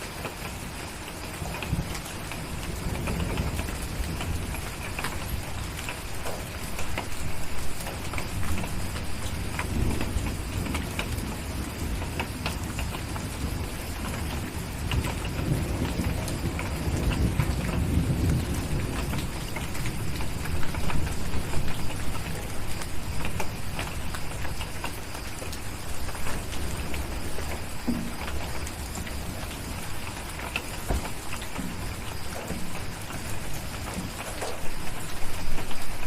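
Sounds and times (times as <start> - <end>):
low rolling thunder: 0.0 - 36.0
steady rain: 0.0 - 36.0.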